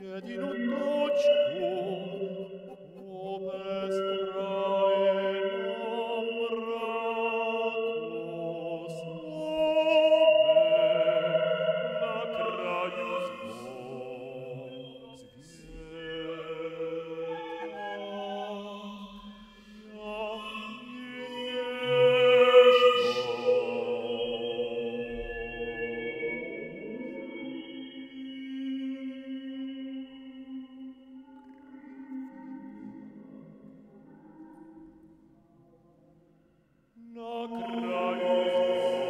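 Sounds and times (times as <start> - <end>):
sustained sung tones with vibrato: 0.0 - 33.6, 37.0 - 39.0.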